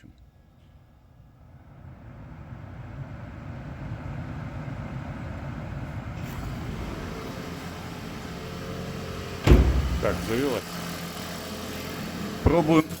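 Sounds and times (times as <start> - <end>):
car engine starting and running: 1.4 - 13.0.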